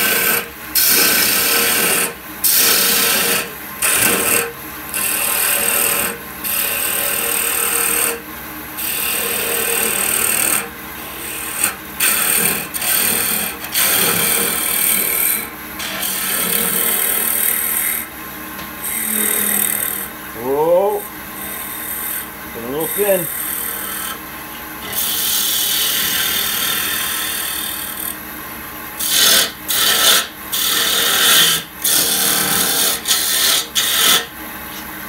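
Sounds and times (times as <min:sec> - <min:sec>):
lathe tool scraping wood: 0:00.0 - 0:08.2, 0:08.8 - 0:18.1, 0:18.8 - 0:24.2, 0:24.8 - 0:28.2, 0:29.0 - 0:34.3.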